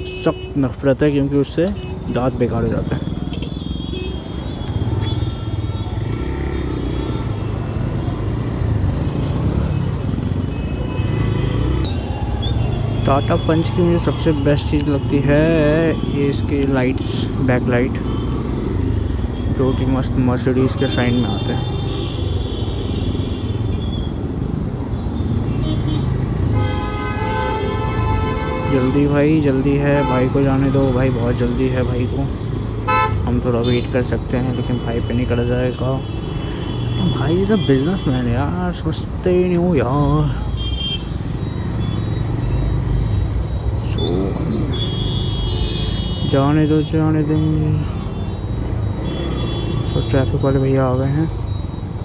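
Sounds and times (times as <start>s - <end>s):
traffic noise: 0.0s - 52.0s.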